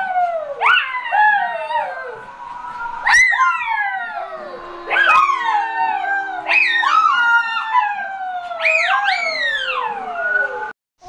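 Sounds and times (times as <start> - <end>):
wolves howling: 0.0 - 10.8.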